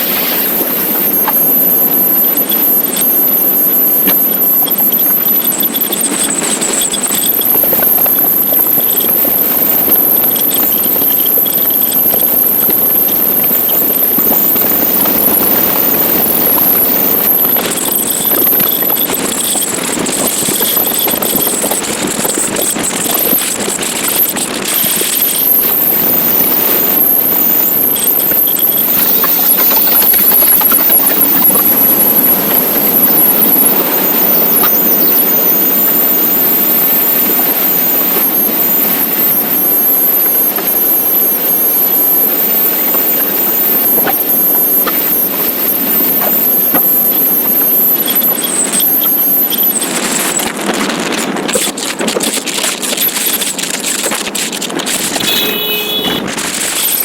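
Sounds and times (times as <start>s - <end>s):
motorcycle engine: 0.0s - 48.8s, 53.6s - 57.0s
thin high whine: 0.0s - 50.5s, 55.0s - 57.0s
road noise: 0.0s - 57.0s.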